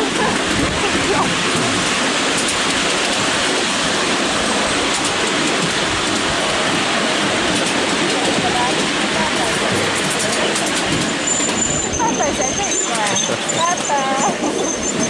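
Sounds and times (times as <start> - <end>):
miniature train running on track: 0.0 - 15.0.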